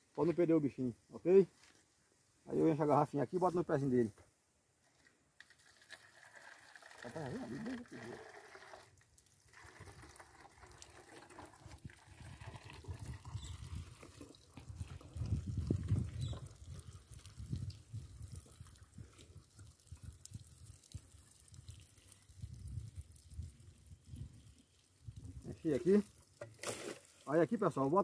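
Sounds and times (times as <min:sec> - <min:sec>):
water pouring into plastic bottle: 0:05.4 - 0:28.0.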